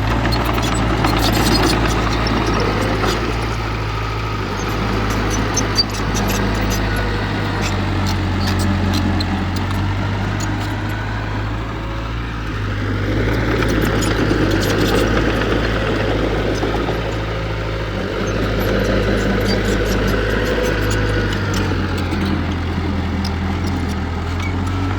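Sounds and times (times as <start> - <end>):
heavy diesel machinery running: 0.0 - 24.9.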